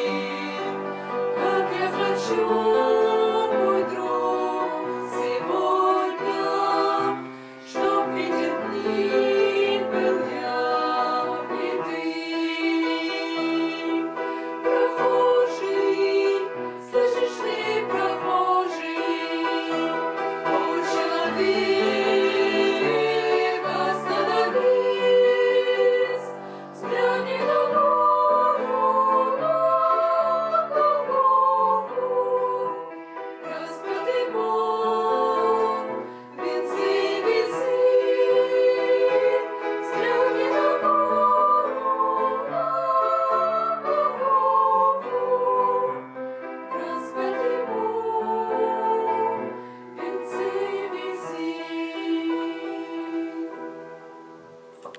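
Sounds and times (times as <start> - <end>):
women singing in harmony: 0.0 - 54.9.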